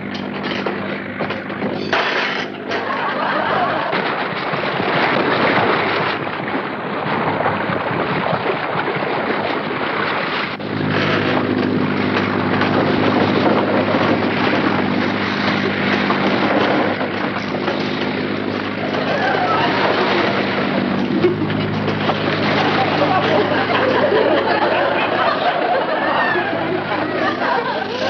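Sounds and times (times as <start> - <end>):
steady motor drone: 0.0 - 28.0
wind: 0.0 - 28.0
heavy waves: 2.8 - 28.0.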